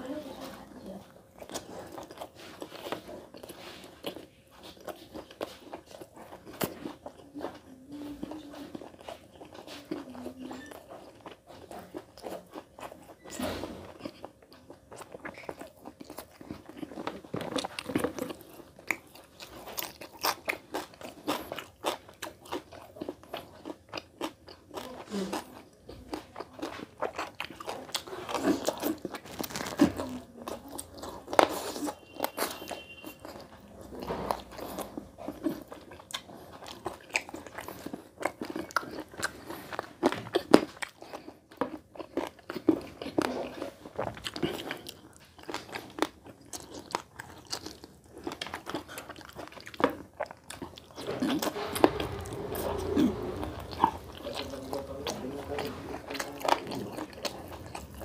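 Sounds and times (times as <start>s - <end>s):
man chewing food: 0.0s - 58.0s.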